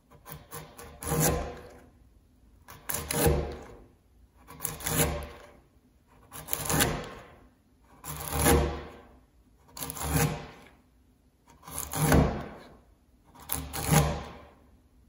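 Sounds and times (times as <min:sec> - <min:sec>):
chisel scraping through wood: 0:00.0 - 0:02.0, 0:02.6 - 0:10.8, 0:11.4 - 0:14.6.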